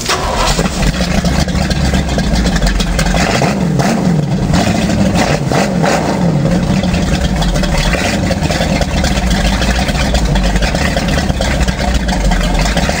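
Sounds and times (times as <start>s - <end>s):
boat engine running steadily: 0.6s - 13.0s.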